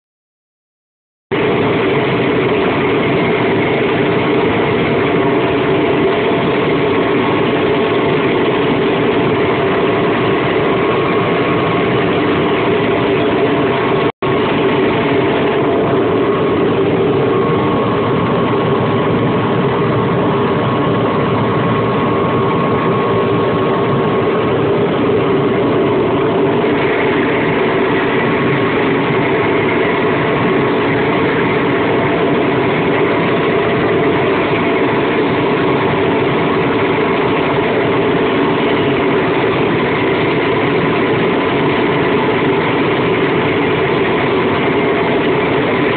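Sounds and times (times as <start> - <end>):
cotton picker machinery humming: 1.4 - 45.9.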